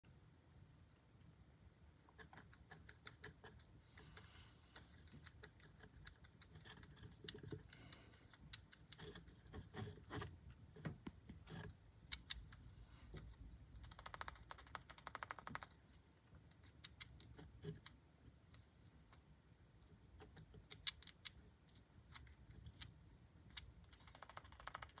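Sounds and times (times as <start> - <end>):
hamster gnawing on a bone: 1.2 - 25.0.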